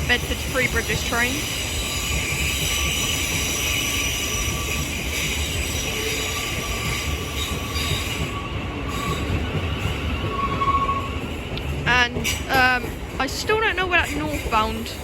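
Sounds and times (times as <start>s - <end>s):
low train rumble: 0.0s - 15.0s
train wheels squealing on rails: 0.2s - 13.1s.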